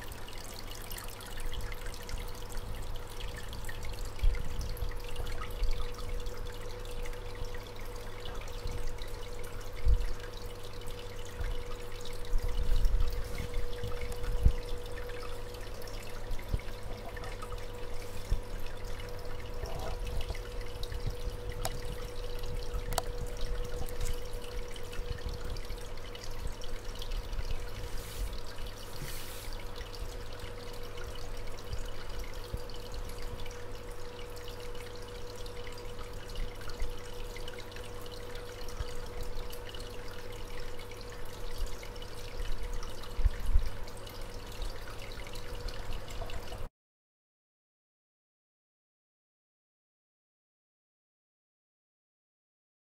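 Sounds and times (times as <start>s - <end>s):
aquarium water trickling: 0.0s - 46.7s
steady hum: 0.0s - 46.7s.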